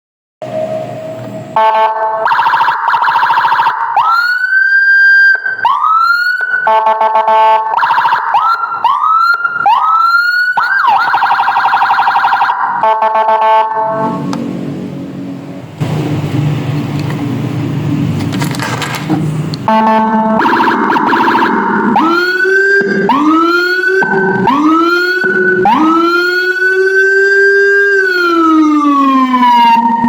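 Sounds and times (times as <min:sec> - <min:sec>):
electronic siren: 0:00.4 - 0:14.4, 0:19.7 - 0:30.0.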